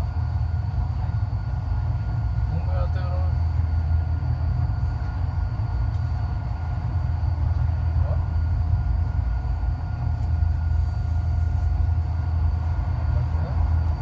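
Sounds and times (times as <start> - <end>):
train wheels rumbling on track: 0.0 - 14.0
whining tones: 0.0 - 14.0.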